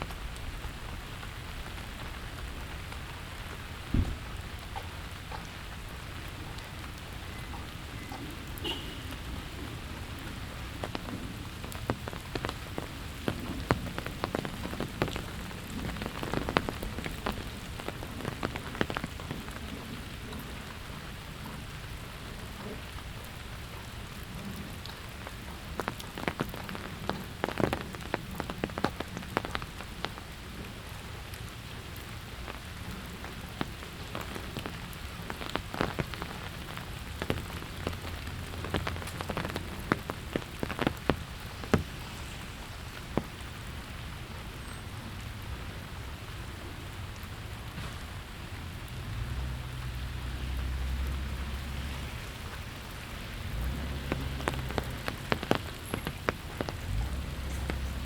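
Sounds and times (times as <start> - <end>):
raindrop taps: 0.0 - 44.8, 47.1 - 58.0
steady rain falling: 0.0 - 58.0.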